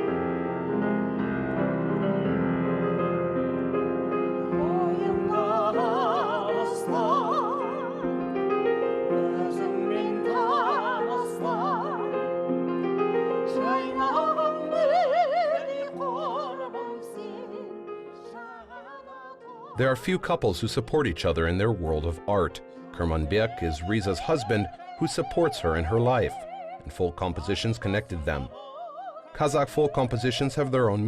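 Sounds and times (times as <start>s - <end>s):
folk song with vibrato singing: 4.2s - 31.0s.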